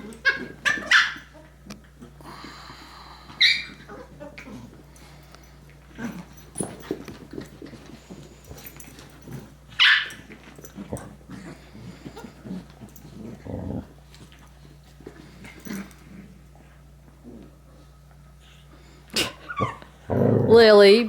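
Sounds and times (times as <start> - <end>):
dogs scuffling and grunting: 0.0 - 20.8.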